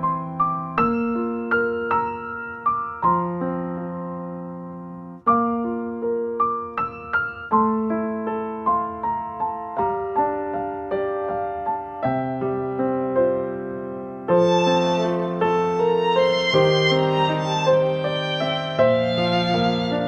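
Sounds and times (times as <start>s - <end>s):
gentle piano piece: 0.0s - 20.0s.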